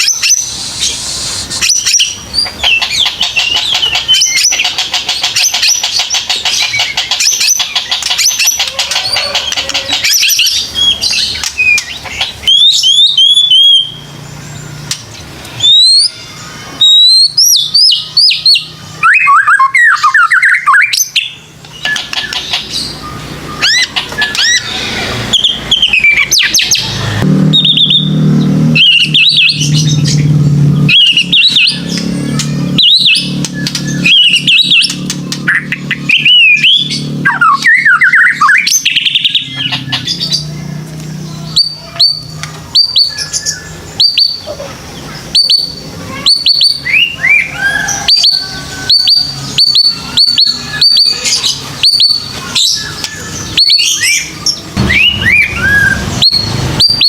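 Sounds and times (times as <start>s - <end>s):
songbird whistling and trilling: 0.0s - 15.0s, 15.6s - 40.5s, 41.4s - 57.0s.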